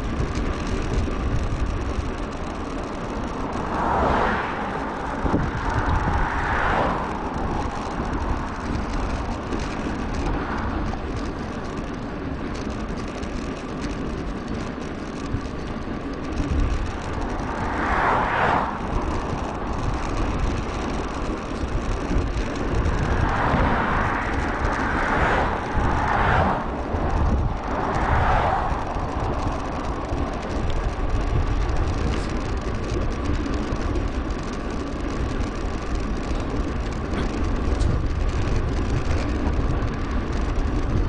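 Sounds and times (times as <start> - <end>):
wind rushing over microphone: 0.0 - 13.6, 14.2 - 41.0
bicycle ride rumble: 0.0 - 41.0.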